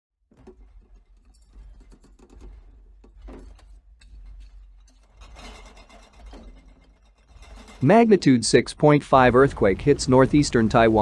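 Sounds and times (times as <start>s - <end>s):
loose objects rattling and clicking: 0.3s - 11.0s
low earthquake rumble: 0.3s - 11.0s.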